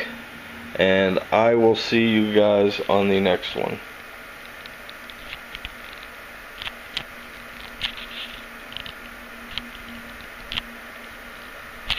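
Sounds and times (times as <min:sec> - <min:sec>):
faint steady hum: 0:00.0 - 0:11.9.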